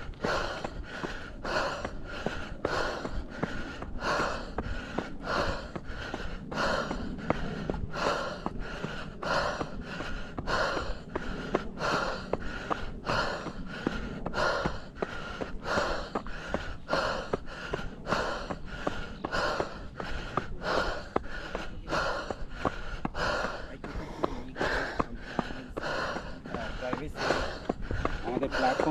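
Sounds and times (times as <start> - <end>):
heavy open-mouth breathing: 0.0 - 28.9
light footfalls: 0.0 - 28.9.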